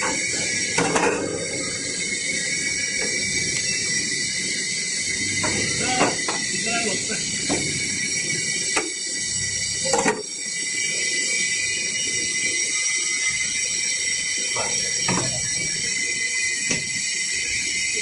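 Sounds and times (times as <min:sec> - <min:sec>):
machinery hiss and whine: 0:00.0 - 0:18.0.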